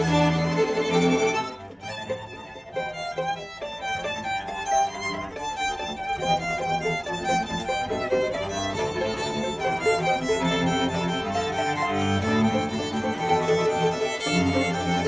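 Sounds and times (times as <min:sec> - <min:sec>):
string quartet playing: 0:00.0 - 0:15.0.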